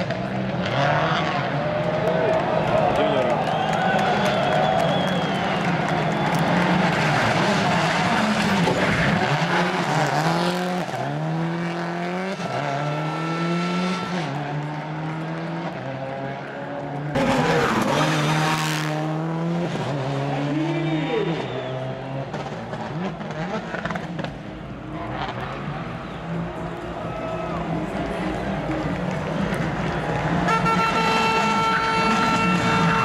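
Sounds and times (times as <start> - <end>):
rally car engine revving: 0.0 - 3.6, 4.9 - 33.0
tyres skidding on tarmac: 0.0 - 33.0.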